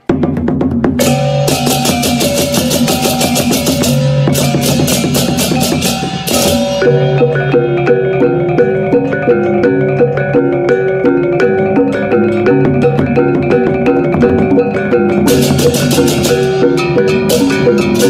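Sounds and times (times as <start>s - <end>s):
drum-heavy music: 0.0s - 18.0s
ticking beat: 0.0s - 18.0s
melody of short pitched notes: 1.0s - 18.0s.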